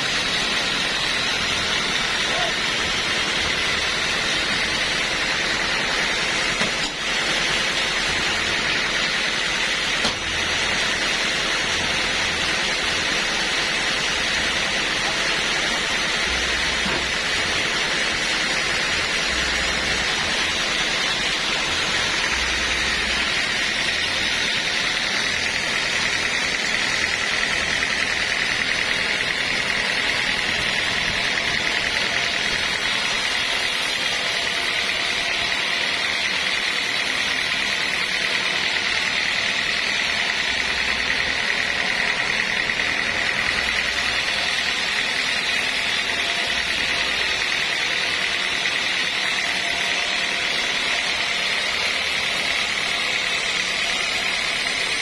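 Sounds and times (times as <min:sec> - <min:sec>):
high-pitched whine: 0:00.0 - 0:55.0
sawmill machinery running: 0:00.0 - 0:55.0.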